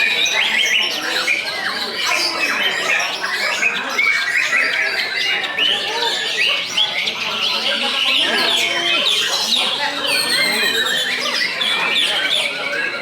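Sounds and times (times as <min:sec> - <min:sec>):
birds singing whistles and trills: 0:00.0 - 0:13.0.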